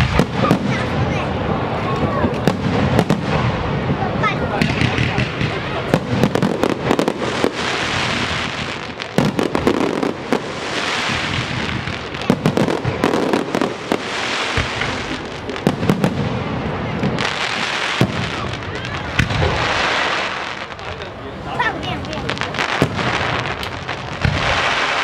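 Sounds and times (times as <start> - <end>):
fireworks bangs: 0.0 - 25.0
fireworks crackling hiss: 0.0 - 25.0.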